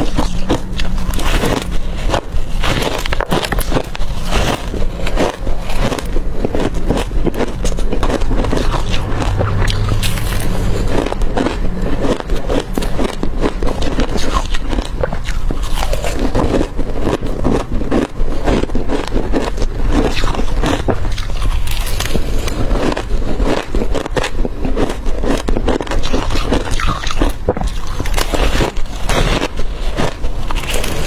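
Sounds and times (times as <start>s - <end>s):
crushed ice being chewed: 0.0s - 31.0s.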